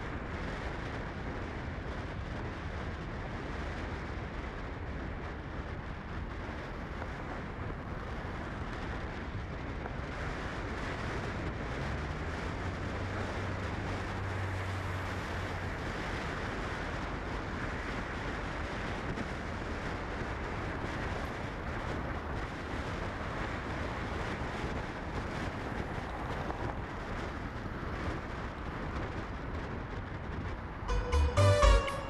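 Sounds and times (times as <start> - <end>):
tyres on road: 0.0 - 32.0.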